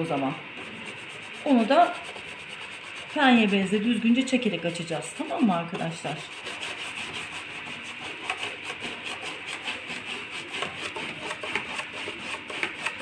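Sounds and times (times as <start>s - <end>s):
brush scratching on panel: 0.0s - 13.0s.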